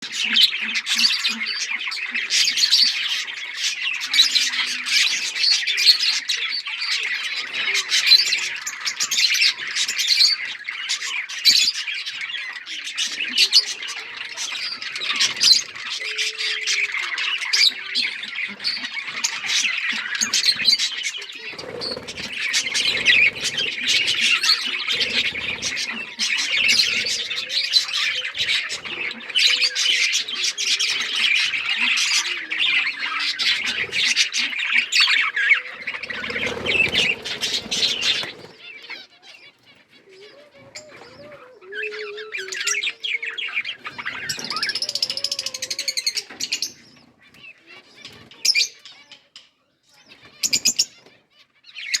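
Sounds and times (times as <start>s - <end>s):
budgerigars chirping and squawking: 0.0s - 52.0s.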